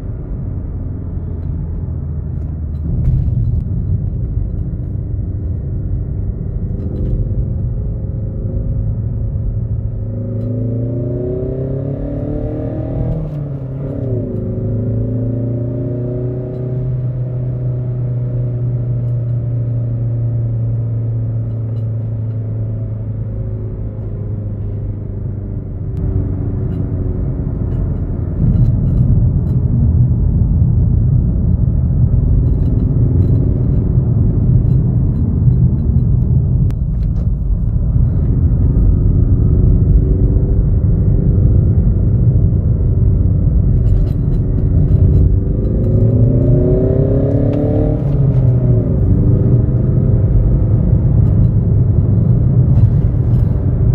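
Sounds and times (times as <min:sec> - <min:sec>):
low road rumble: 0:00.0 - 0:53.9.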